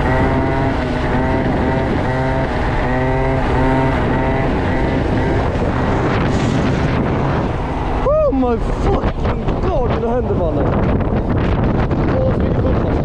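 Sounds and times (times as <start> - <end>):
moped engine revving: 0.0 - 12.0
wind on microphone: 0.0 - 13.0.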